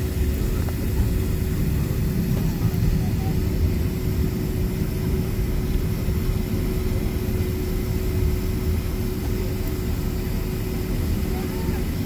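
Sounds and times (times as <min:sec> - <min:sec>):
airplane cabin low rumble: 0:00.0 - 0:12.0.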